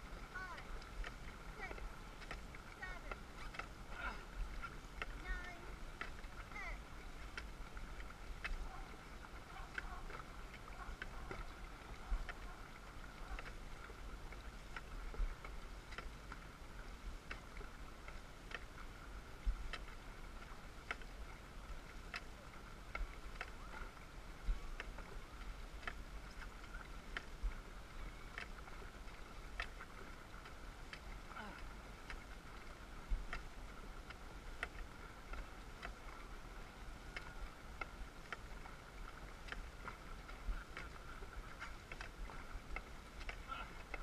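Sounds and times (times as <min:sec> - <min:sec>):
paddles stroking through water: 0:00.0 - 0:44.0
wind rumble on microphone: 0:00.0 - 0:44.0
sharp paddle ticks: 0:00.3 - 0:03.8, 0:04.5 - 0:16.4, 0:17.2 - 0:21.2, 0:22.0 - 0:24.0, 0:25.8 - 0:27.6, 0:28.3 - 0:36.3, 0:37.1 - 0:44.0.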